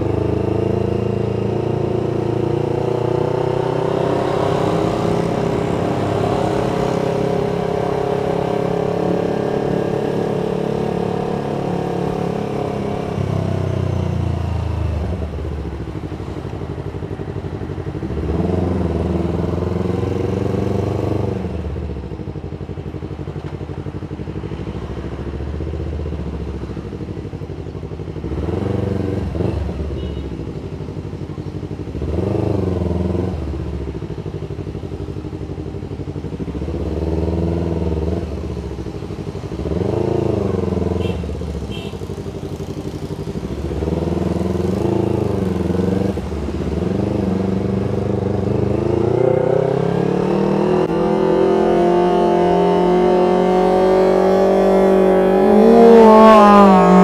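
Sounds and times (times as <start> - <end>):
motorcycle engine revving: 0.0 - 27.4, 28.0 - 31.0, 31.6 - 57.0.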